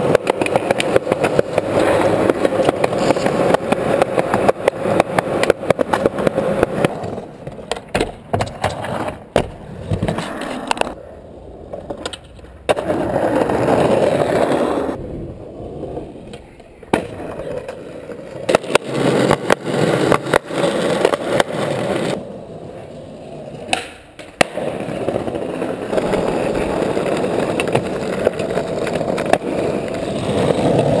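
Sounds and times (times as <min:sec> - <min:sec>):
skateboard clacks: 0:00.0 - 0:31.0
skateboard wheels rolling on concrete: 0:00.0 - 0:31.0.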